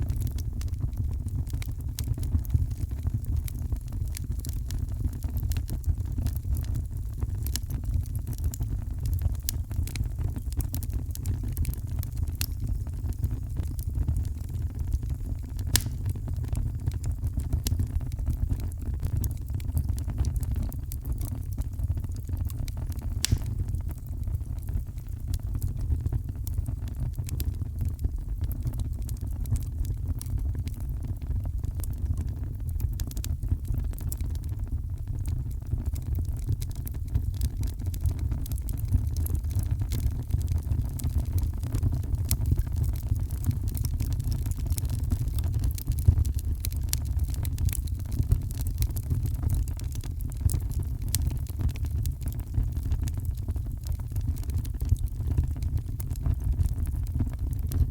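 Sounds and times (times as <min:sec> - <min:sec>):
fire crackling and popping: 0:00.0 - 0:57.9.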